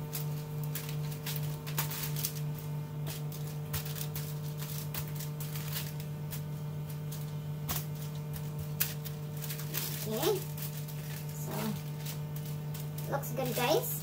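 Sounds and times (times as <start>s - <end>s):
aluminium foil crinkling: 0.0s - 14.0s
low electrical hum: 0.0s - 14.0s.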